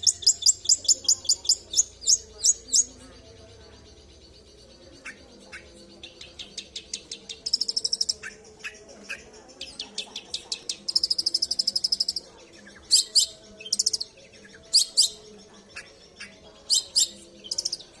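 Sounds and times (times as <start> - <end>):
bird chattering song: 0.0 - 18.0
sharp bird calls: 0.0 - 18.0.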